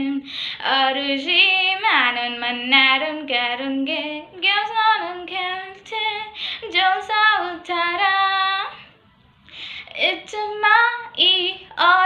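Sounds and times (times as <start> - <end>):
woman singing unaccompanied: 0.0 - 8.8, 9.8 - 12.0.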